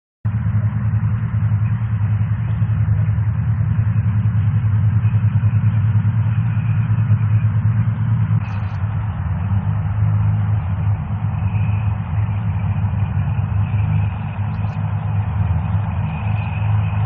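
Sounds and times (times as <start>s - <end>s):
large engine running: 0.3s - 17.0s.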